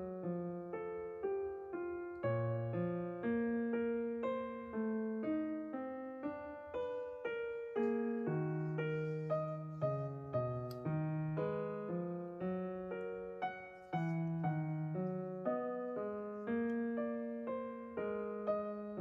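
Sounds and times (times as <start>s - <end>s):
piano notes and soft chords: 0.0s - 19.0s.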